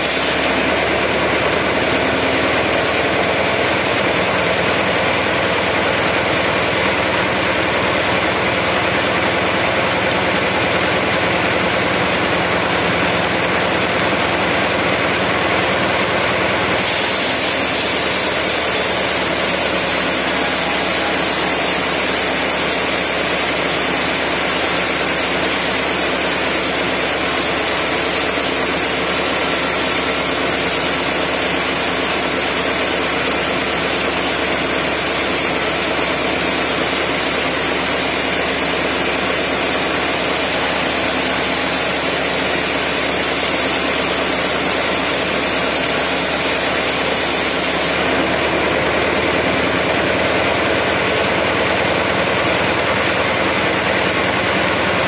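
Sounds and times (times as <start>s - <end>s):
sawmill saw cutting log: 0.0s - 55.0s.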